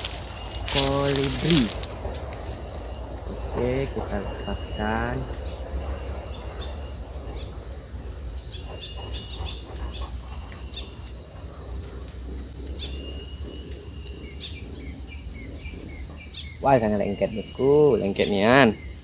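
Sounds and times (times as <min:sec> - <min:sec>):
bird chirps: 0:00.0 - 0:19.0
insects droning: 0:00.0 - 0:19.0.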